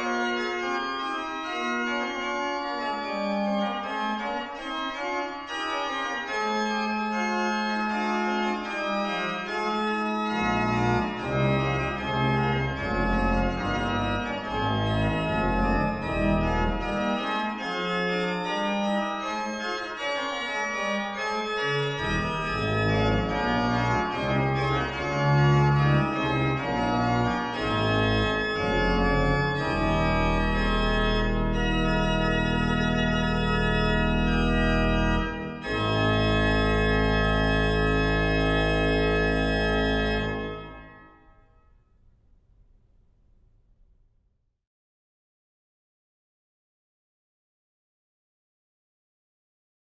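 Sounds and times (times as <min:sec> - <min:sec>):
pipe organ chorale prelude: 0:00.0 - 0:41.7.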